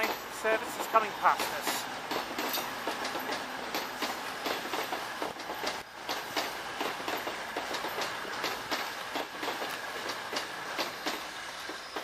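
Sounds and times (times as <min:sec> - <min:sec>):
rolling rail noise: 0:00.0 - 0:12.0
train wheels clattering over rail joints: 0:00.0 - 0:12.0.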